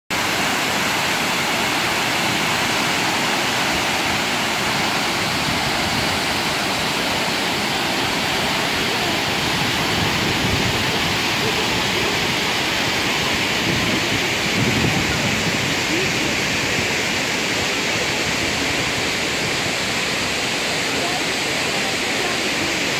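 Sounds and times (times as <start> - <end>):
waterfall rushing: 0.1 - 22.9.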